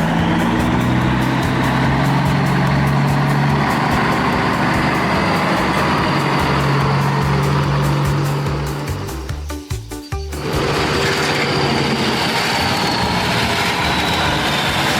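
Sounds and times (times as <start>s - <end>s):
background music: 0.0s - 14.9s
tractor engine running: 0.0s - 14.9s.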